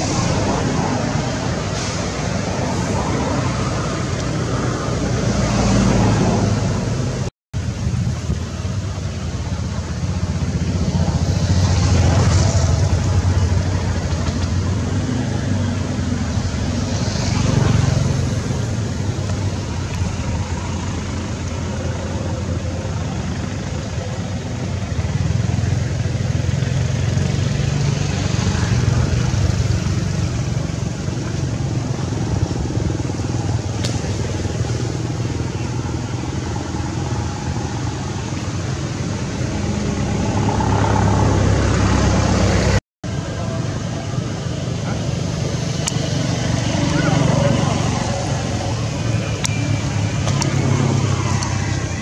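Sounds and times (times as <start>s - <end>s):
motor vehicle engine rumble: 0.0s - 52.0s.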